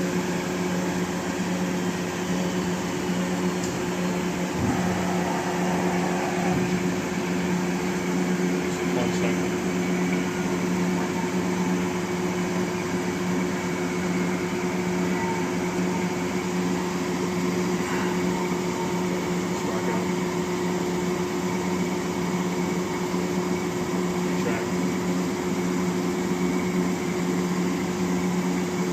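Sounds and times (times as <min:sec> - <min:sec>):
grinding machine humming: 0:00.0 - 0:28.9.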